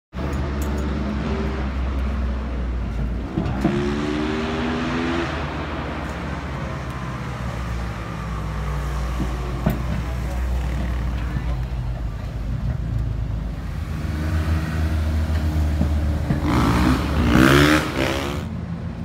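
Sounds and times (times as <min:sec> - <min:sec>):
engine humming: 0:00.1 - 0:19.0.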